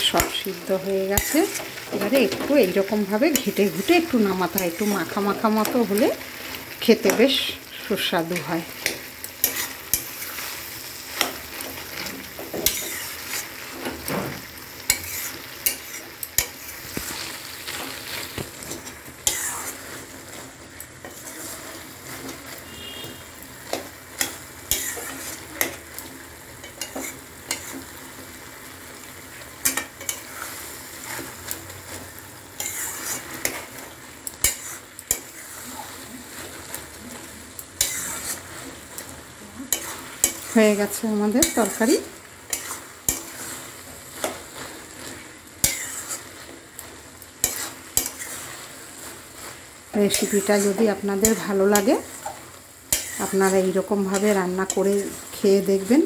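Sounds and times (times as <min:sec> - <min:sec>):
curry sizzling: 0:00.0 - 0:56.0
spatula scraping a pan: 0:00.0 - 0:56.0.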